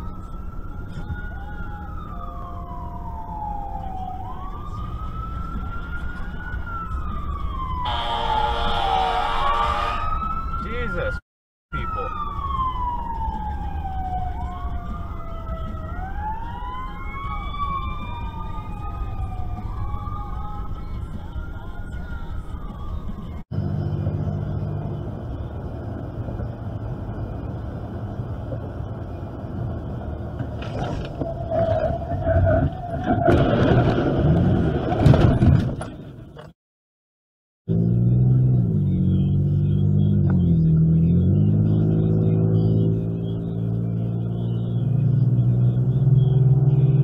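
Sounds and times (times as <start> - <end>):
car engine and road drone: 0.0 - 10.8, 11.8 - 36.5, 37.7 - 47.0
emergency vehicle sirens wailing: 0.0 - 34.6, 37.8 - 47.0.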